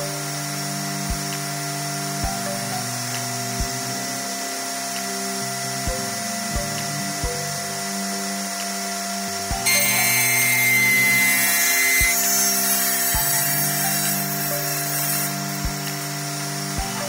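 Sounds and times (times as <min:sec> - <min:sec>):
background music: 0:00.0 - 0:17.0
saw motor tone: 0:00.0 - 0:17.0
table saw cutting panel: 0:00.0 - 0:17.0.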